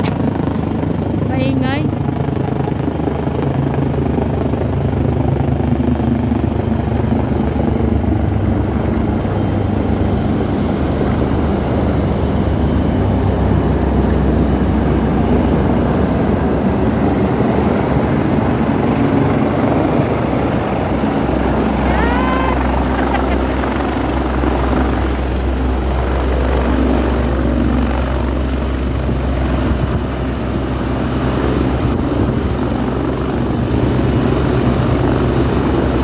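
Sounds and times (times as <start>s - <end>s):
helicopter rotor beat: 0.0s - 36.0s.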